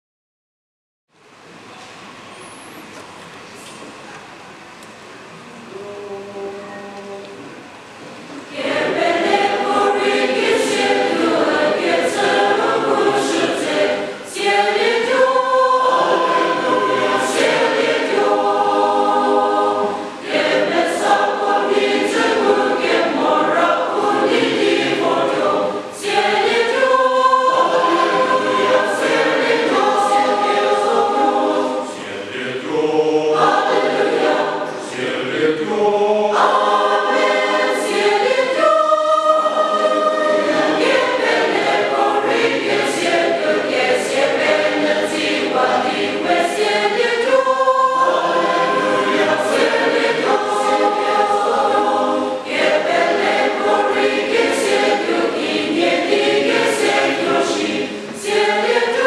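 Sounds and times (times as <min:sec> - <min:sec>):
mixed choir singing: 0:05.6 - 0:07.6, 0:08.4 - 0:59.0.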